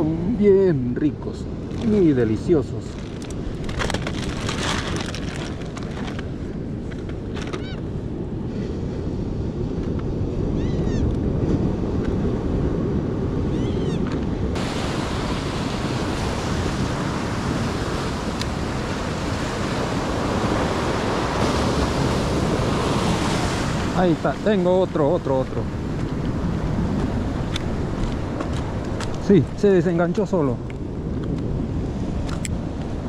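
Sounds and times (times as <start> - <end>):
ocean surf on rocky shore: 0.0 - 33.0
wind on microphone: 0.0 - 33.0.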